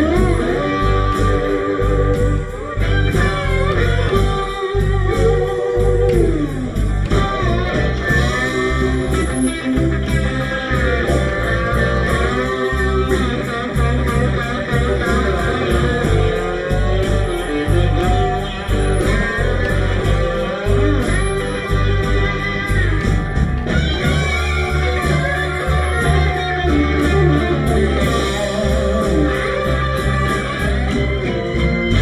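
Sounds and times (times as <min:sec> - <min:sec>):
bass guitar: 0:00.0 - 0:32.0
drums steady beat: 0:00.0 - 0:32.0
electric guitar: 0:00.0 - 0:32.0.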